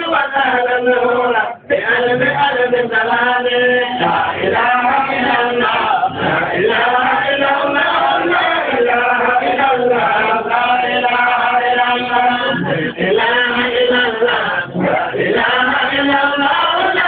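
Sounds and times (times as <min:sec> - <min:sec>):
male voices chanting: 0:00.0 - 0:17.0.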